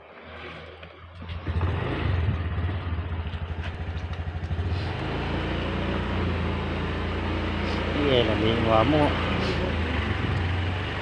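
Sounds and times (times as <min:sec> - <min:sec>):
scooter engine running: 0:01.3 - 0:11.0.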